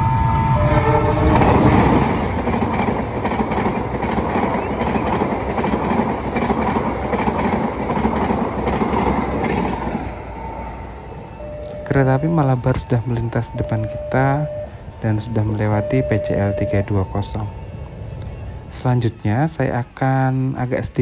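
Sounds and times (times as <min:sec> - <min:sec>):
locomotive passing: 0:00.0 - 0:21.0
train wheels on rails: 0:00.0 - 0:21.0.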